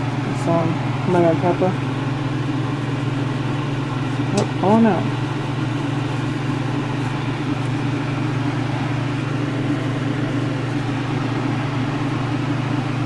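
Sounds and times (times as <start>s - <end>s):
fan running: 0.0s - 13.0s.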